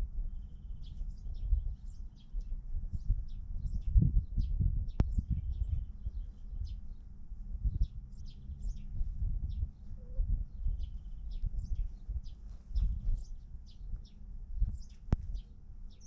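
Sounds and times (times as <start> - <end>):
low rumbling background noise: 0.0 - 16.0
birds chirping: 0.3 - 16.0.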